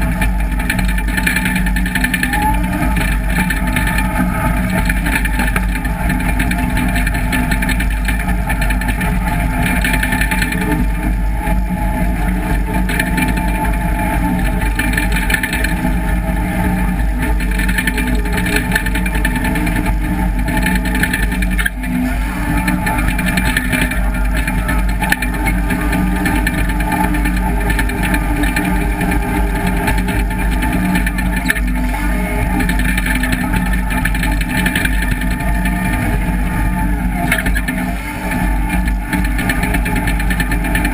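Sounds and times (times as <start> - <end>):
dozer diesel engine under load: 0.0 - 40.9.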